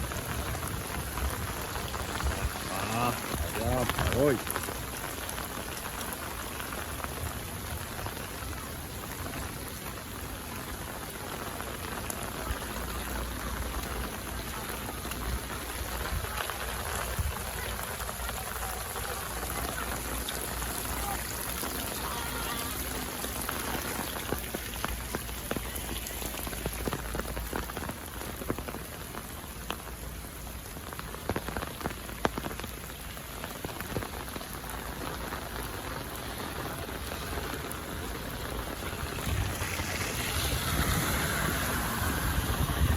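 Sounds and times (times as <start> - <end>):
sharp drips and taps: 0.0 - 42.3
rain on hard surfaces: 0.0 - 42.9.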